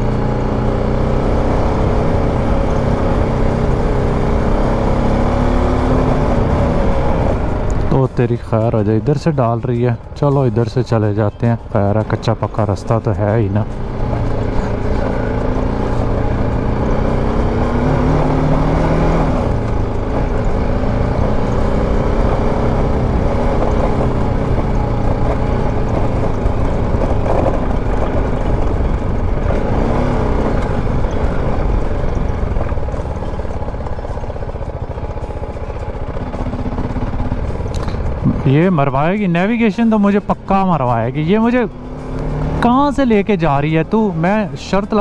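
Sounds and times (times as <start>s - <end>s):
motorcycle engine revving: 0.0s - 10.1s, 10.8s - 45.0s.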